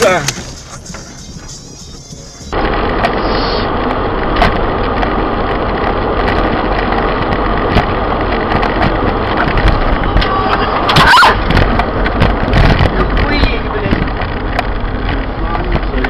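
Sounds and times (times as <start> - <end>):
car road and engine noise: 0.0 - 16.0
truck passing close: 0.0 - 16.0.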